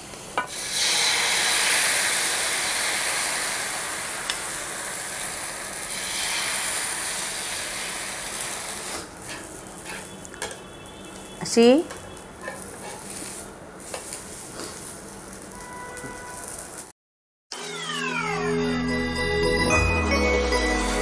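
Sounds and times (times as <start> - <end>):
batter sizzling on a hot pan: 0.0 - 16.9.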